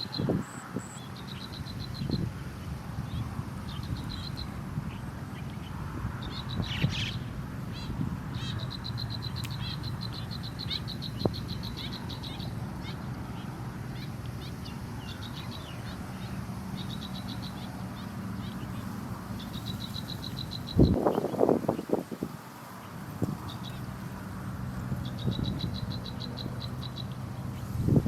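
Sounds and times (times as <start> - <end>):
nestling birds chirping: 0.0 - 28.0.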